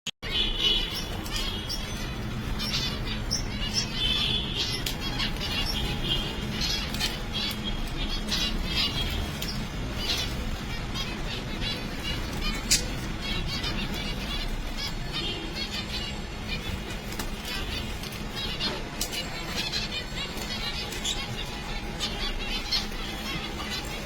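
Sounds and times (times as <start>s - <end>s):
finches chirping: 0.2s - 24.0s.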